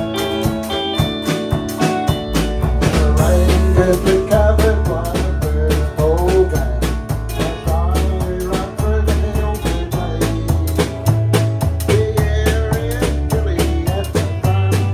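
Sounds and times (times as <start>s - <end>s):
bass line: 0.0s - 14.9s
drum kit beat: 0.0s - 14.9s.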